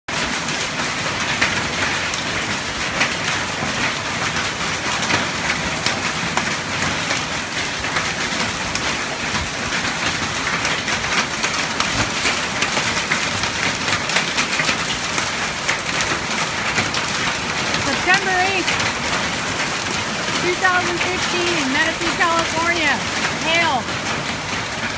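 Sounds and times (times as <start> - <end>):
hailstones striking surfaces: 0.1 - 24.9
heavy rain hissing: 0.2 - 24.9.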